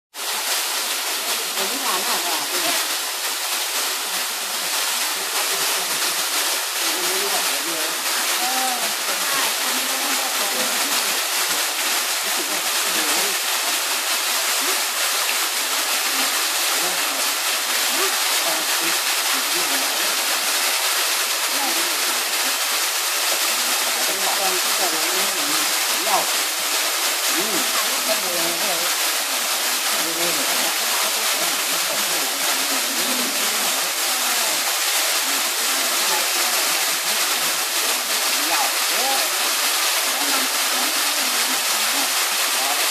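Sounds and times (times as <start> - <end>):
waterfall splashing into pool: 0.1 - 42.9
people chatting: 1.0 - 3.0, 4.0 - 13.5, 14.6 - 14.9, 16.0 - 20.5, 21.4 - 22.6, 23.5 - 26.4, 27.3 - 42.9.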